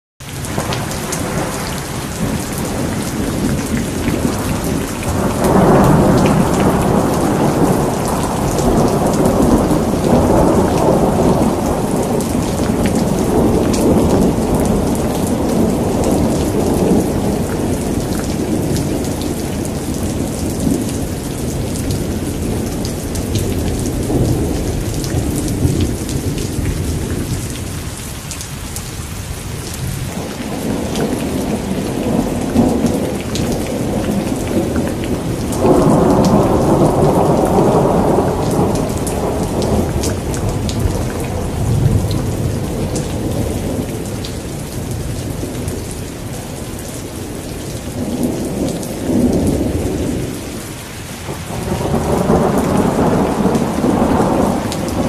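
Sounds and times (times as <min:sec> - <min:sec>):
rain hiss: 0:00.4 - 0:55.0
thunder rolling: 0:00.5 - 0:27.6, 0:29.8 - 0:45.9, 0:51.4 - 0:55.0.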